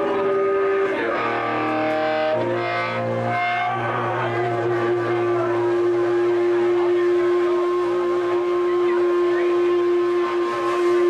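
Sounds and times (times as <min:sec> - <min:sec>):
distorted electric guitar notes: 0:00.0 - 0:11.0.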